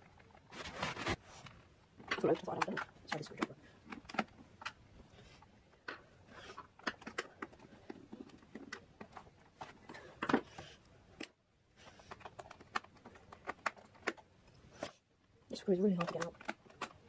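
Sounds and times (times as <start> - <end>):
screwdriver clicks and scrapes on plastic: 1.4 - 15.0, 15.6 - 17.0.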